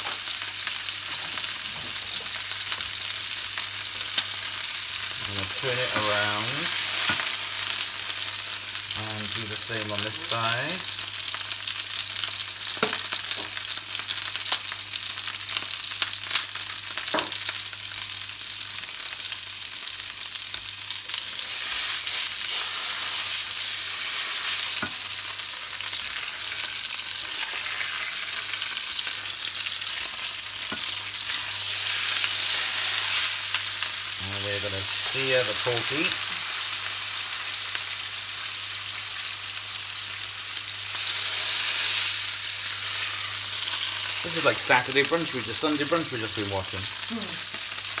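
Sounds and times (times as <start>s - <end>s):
meat sizzling in a frying pan: 0.0s - 48.0s.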